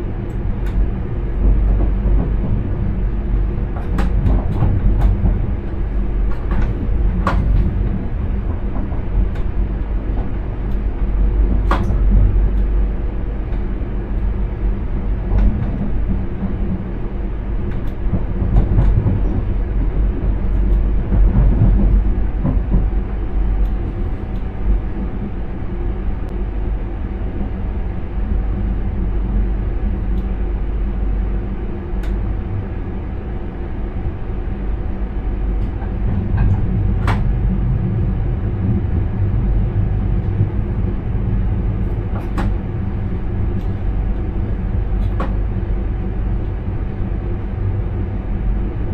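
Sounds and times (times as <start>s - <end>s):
train rumbling: 0.0s - 48.9s.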